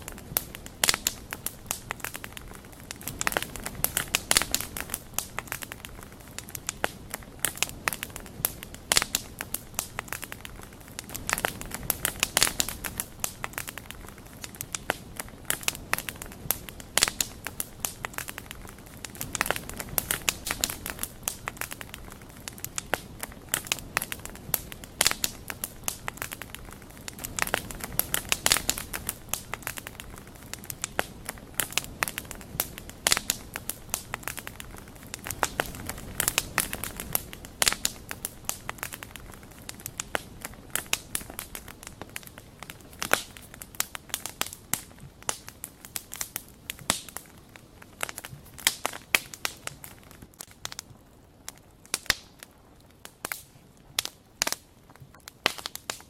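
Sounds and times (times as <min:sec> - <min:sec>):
bonfire crackling: 0:00.0 - 0:56.0
soft steady hiss: 0:00.0 - 0:56.0.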